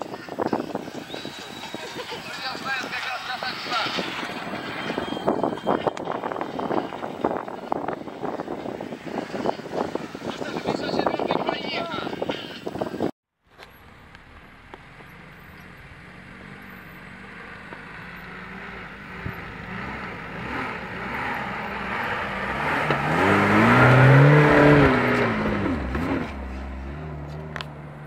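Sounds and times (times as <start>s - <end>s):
off-road car engine passing by: 0.0s - 12.8s, 13.5s - 28.0s.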